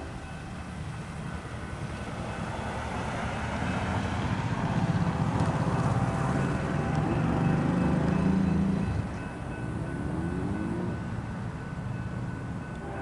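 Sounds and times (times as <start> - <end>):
crossing bell ringing: 0.0 - 5.0, 5.6 - 13.0
freight train diesel rumble: 0.0 - 13.0.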